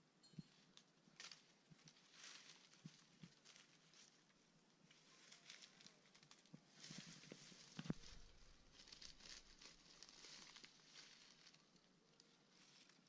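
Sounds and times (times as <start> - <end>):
dry leaf litter rustling: 1.2 - 13.0.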